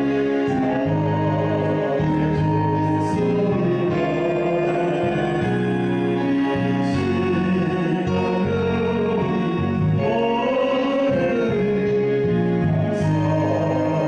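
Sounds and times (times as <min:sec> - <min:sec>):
bass line: 0:00.0 - 0:14.0
hymn accompaniment chords: 0:00.0 - 0:14.0.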